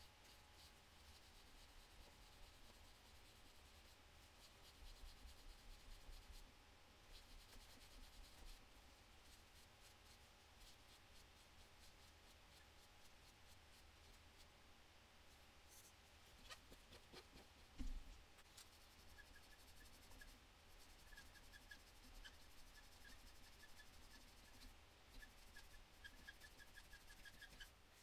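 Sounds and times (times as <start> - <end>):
rubbing on plastic figure: 0.0 - 6.4, 7.1 - 14.5, 15.7 - 28.0.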